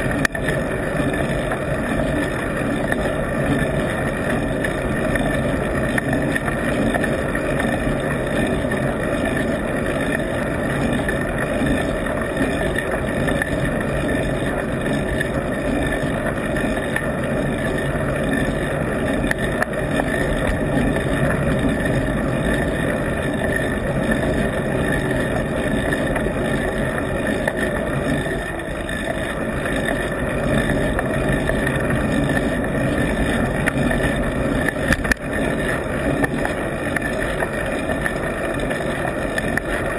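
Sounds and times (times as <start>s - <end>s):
bike road noise: 0.0s - 39.9s.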